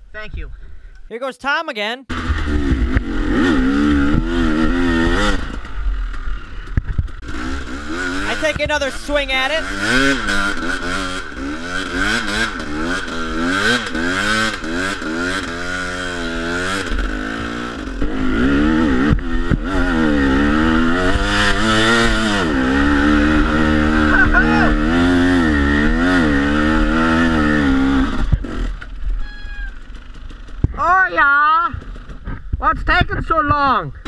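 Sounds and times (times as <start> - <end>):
dirt bike engine revving: 2.1 - 33.5.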